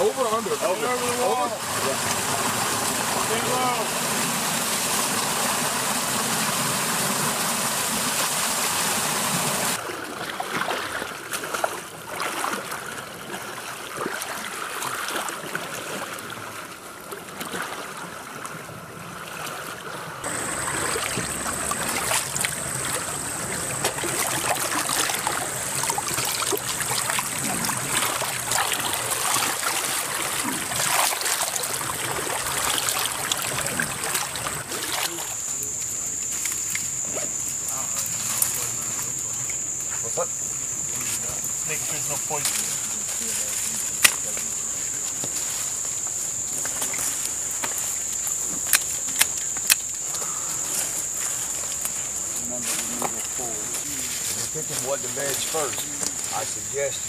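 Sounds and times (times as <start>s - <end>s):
creek water rushing: 0.0s - 57.0s
splashing of people wading: 0.0s - 57.0s.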